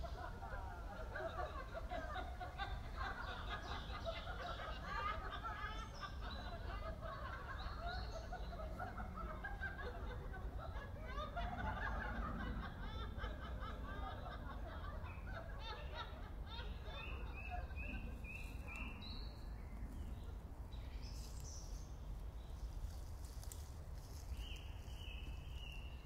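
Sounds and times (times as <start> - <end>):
crowd chattering and laughing: 0.0 - 21.9.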